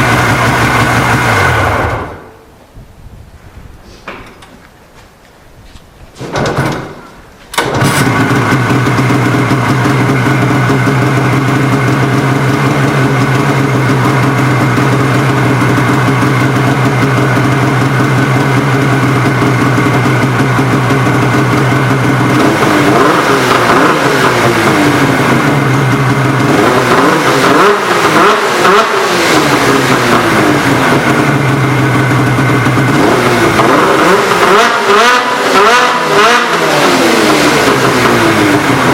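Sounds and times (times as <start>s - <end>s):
snowmobile engine idling and revving: 0.0s - 2.3s, 7.6s - 38.9s.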